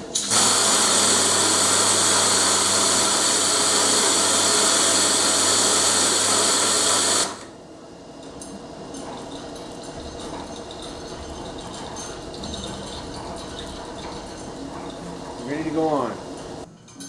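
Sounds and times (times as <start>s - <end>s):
electric chain hoist motor whirring: 0.0s - 7.6s, 8.4s - 16.7s.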